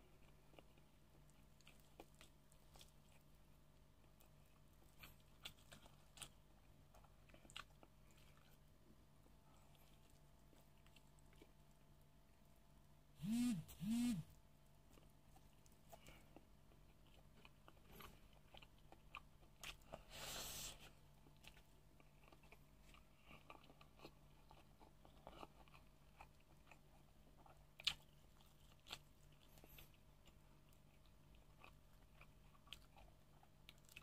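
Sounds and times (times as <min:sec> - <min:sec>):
person chewing: 0:00.0 - 0:11.9, 0:14.9 - 0:34.0.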